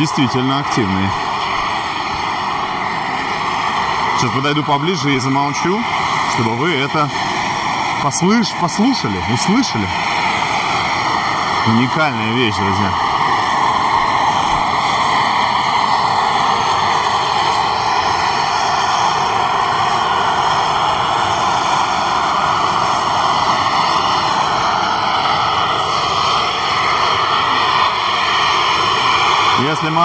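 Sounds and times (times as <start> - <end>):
steam vent hissing: 0.0 - 30.0.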